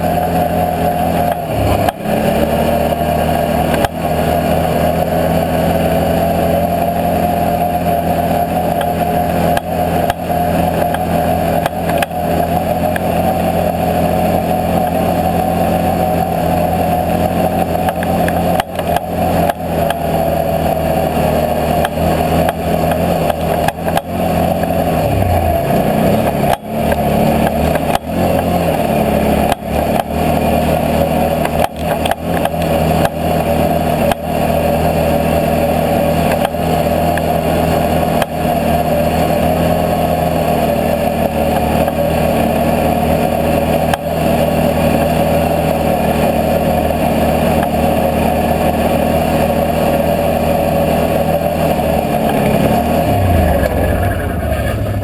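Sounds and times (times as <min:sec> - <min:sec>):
atv engine running: 0:00.0 - 0:55.0
whine: 0:00.0 - 0:55.0.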